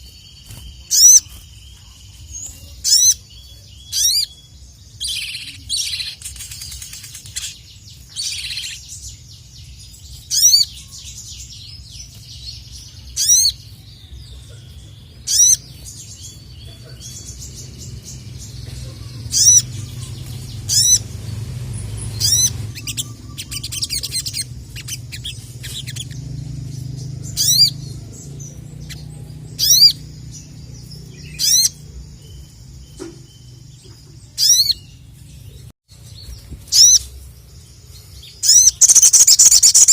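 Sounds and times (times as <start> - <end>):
sunbird high-pitched calls: 0.0 - 35.2, 36.3 - 39.9
continuous bird twittering: 0.0 - 39.9.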